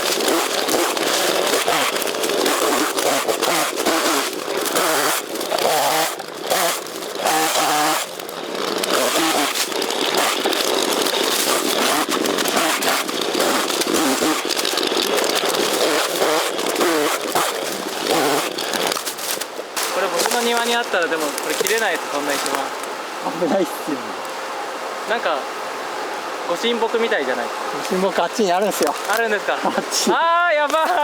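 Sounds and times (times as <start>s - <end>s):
chainsaw cutting: 0.0s - 23.8s, 27.8s - 31.0s.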